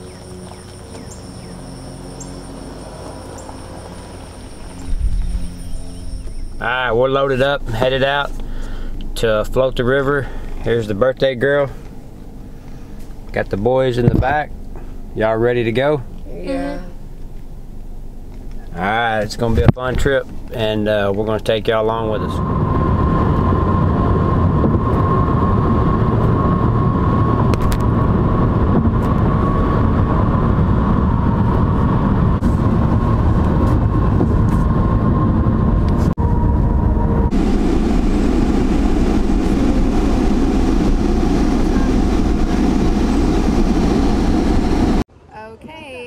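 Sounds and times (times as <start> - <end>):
road and wind noise inside car: 0.0 - 46.0.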